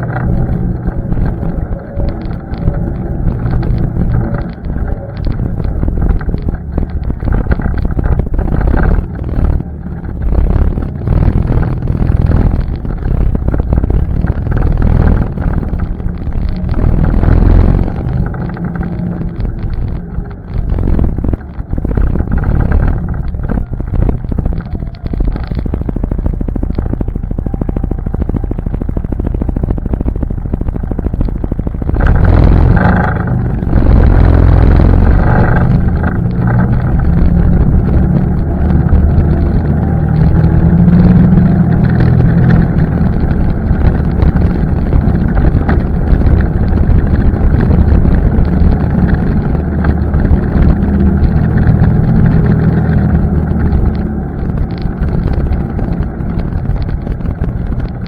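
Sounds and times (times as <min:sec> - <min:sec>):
atv engine running: 0:00.0 - 0:58.0
wind buffeting microphone: 0:00.0 - 0:58.0.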